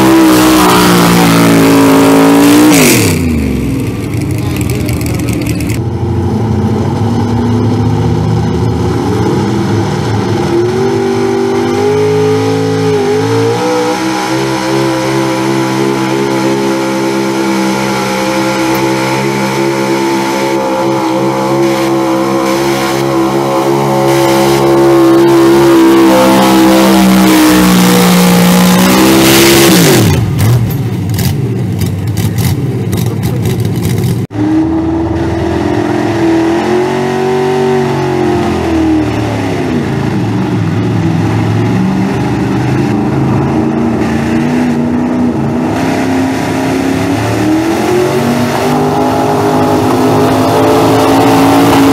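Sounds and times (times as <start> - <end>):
truck engine revving under load: 0.0 - 51.9.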